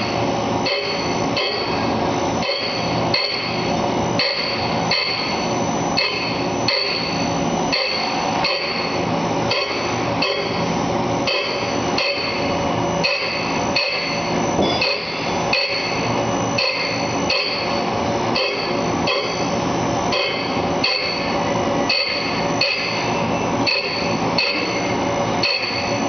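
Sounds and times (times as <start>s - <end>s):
grinding wheel pulsing ringing grind: 0.0s - 26.0s
machine motors humming: 0.0s - 26.0s.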